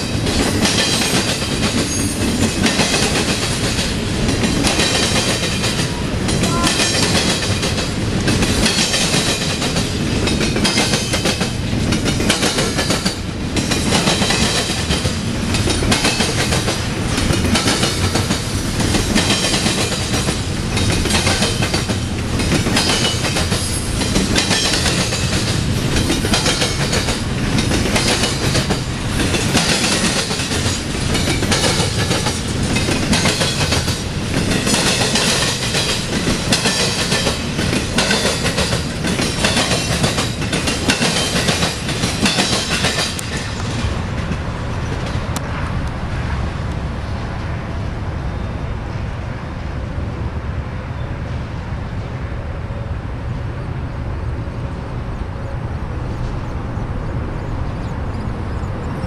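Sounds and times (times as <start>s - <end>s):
train wheels clattering on track: 0.0s - 47.8s
heavy train rumble: 0.0s - 59.0s.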